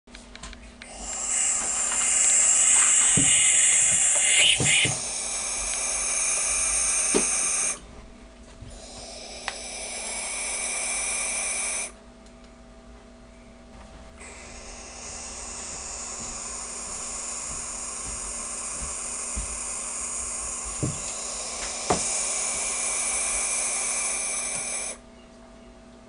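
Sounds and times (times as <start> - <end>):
owl nestlings hissing: 0.8 - 7.9, 8.7 - 12.0, 14.2 - 25.0.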